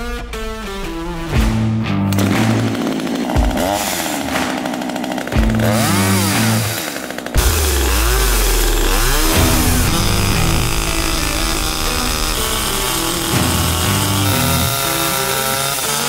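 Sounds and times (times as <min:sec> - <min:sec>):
background music: 0:00.0 - 0:16.0
chainsaw revving: 0:02.1 - 0:16.0
chainsaw cutting branch: 0:02.2 - 0:16.0.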